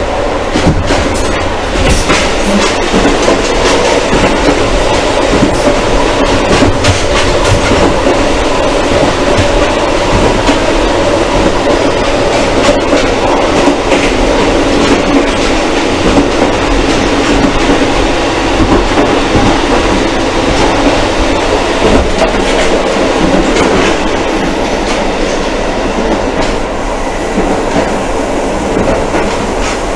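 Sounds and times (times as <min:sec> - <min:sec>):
diesel railcar engine drone: 0:00.0 - 0:29.9
wheels clicking over rails: 0:00.5 - 0:25.4.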